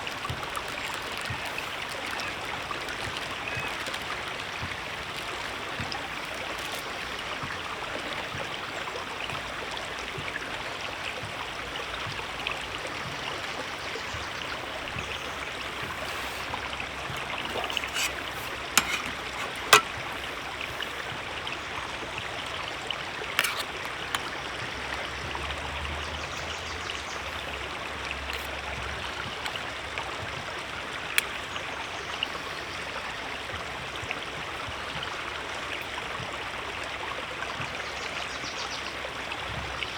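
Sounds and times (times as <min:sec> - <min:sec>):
river flowing over stones: 0:00.0 - 0:38.3.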